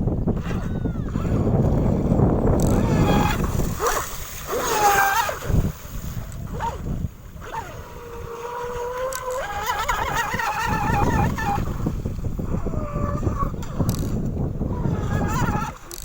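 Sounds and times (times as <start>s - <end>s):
wind and water rushing: 0.0s - 16.0s
electric motor whining: 0.2s - 16.0s.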